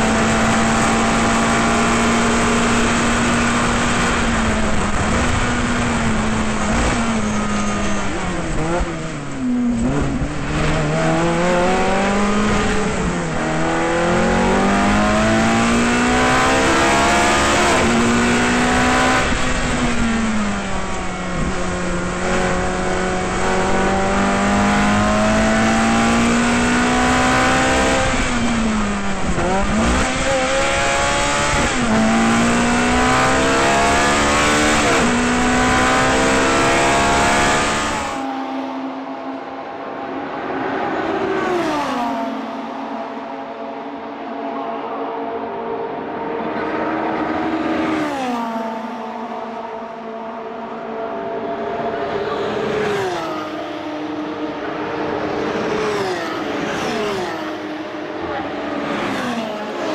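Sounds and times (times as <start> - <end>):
race car engine at high revs: 0.0 - 59.9.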